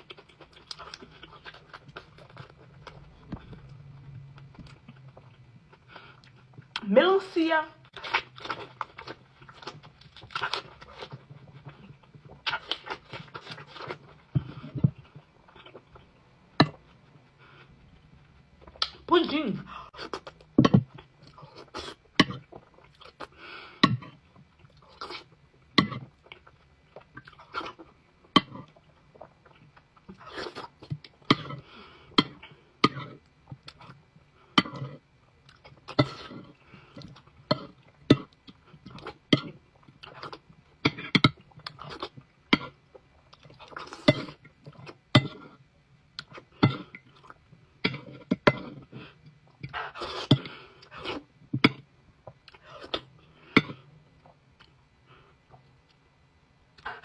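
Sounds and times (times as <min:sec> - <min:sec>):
person chewing food: 0:00.0 - 0:06.8, 0:07.9 - 0:19.1, 0:19.7 - 0:56.1.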